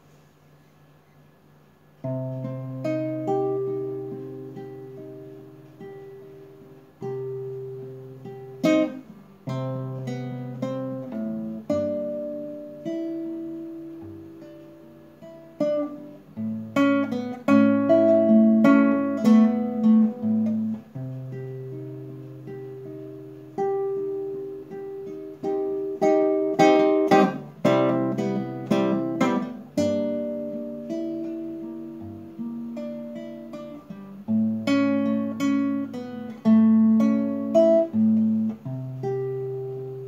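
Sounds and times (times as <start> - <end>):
classical guitar playing: 2.0 - 40.0.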